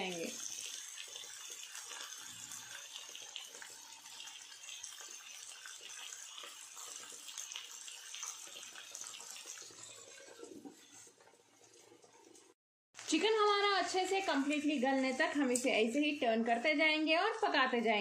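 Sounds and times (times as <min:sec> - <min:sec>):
chicken sizzling in hot oil: 0:00.0 - 0:18.0.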